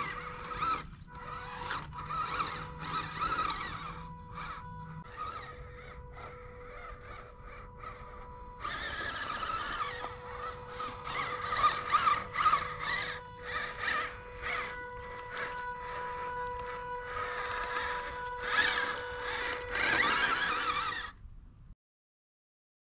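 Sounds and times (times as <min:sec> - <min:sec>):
small electric motor whining: 0:00.0 - 0:21.2
steady thin tone: 0:00.0 - 0:21.2.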